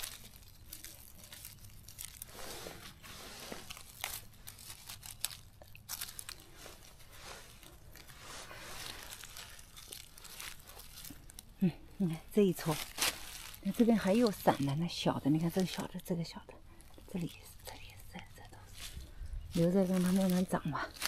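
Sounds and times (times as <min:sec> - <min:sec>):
leaf litter crunching and rustling: 0:00.0 - 0:21.0.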